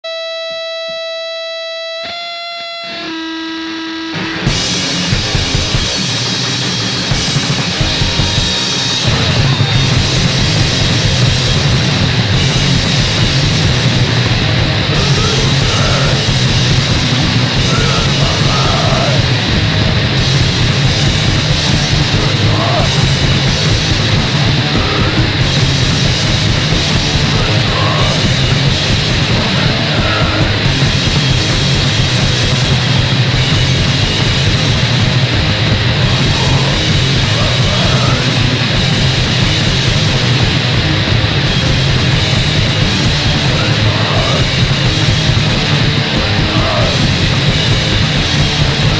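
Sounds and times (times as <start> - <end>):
punk band playing: 2.8 - 48.9.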